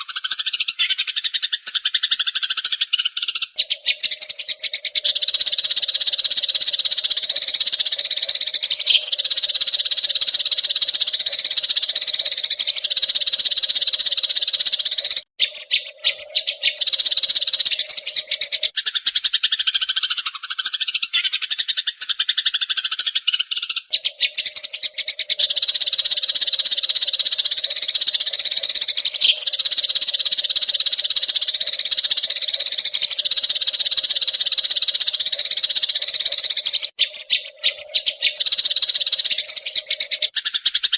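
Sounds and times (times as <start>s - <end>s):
lower-pitched bird call: 0.0s - 40.9s
sparrows chirping: 0.0s - 40.9s.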